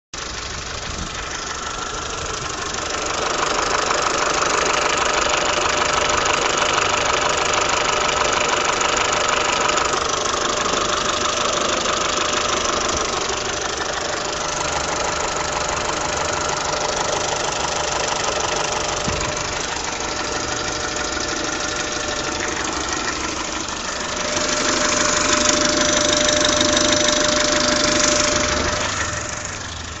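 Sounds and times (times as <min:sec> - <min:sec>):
engine knock: 0:00.2 - 0:30.0
petrol engine running: 0:00.2 - 0:30.0.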